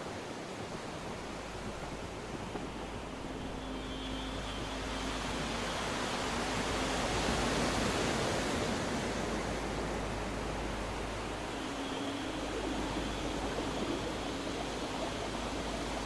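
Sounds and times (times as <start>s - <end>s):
boat wake churning: 0.0s - 16.0s
faint steady hum: 0.0s - 16.0s.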